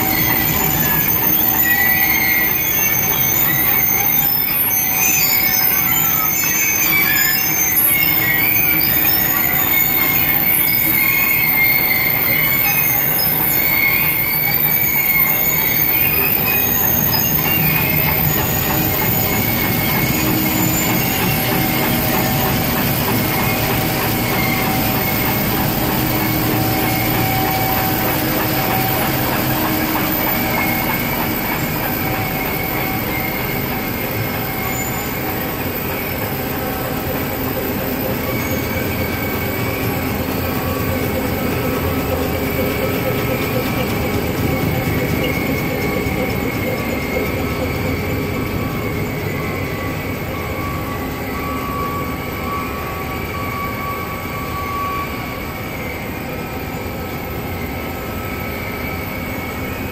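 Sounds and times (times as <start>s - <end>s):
high metallic squeals: 0.0s - 59.9s.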